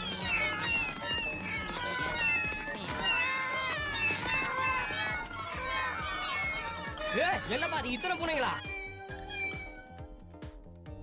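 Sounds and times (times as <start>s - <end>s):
cats meowing: 0.0s - 10.2s
background music: 0.0s - 11.0s.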